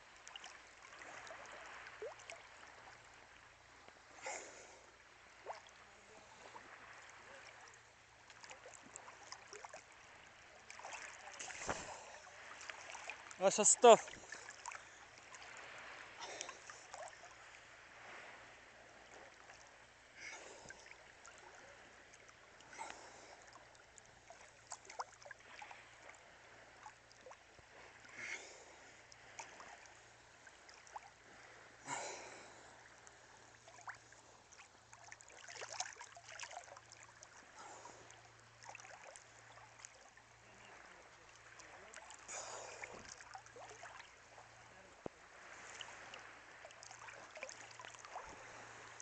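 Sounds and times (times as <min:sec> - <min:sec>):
sea water splashing and trickling: 0:00.0 - 0:49.0
soft water splash: 0:00.0 - 0:49.0.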